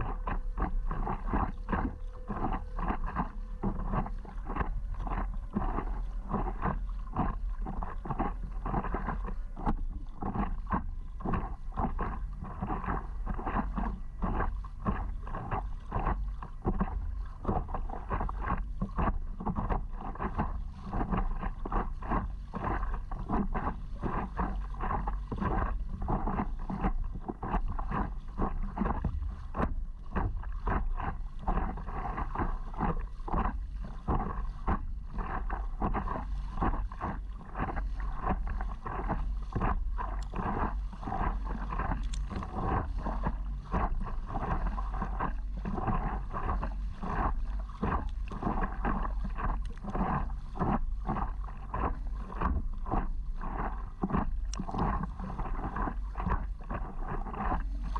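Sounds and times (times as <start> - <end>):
water splashing against paddleboard: 0.0 - 57.9
wind rumble on microphone: 0.0 - 57.9.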